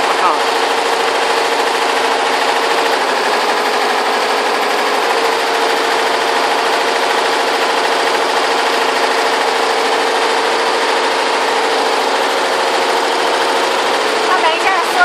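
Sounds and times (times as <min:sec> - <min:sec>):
embroidery machine needles rattling: 0:00.0 - 0:15.0
machine hum: 0:00.0 - 0:15.0.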